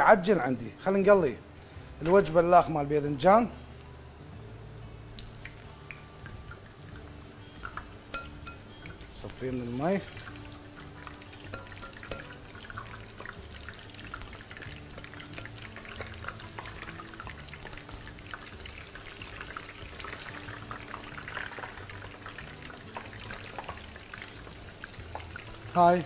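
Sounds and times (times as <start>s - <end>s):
vegetables sizzling in hot oil: 3.8s - 26.0s.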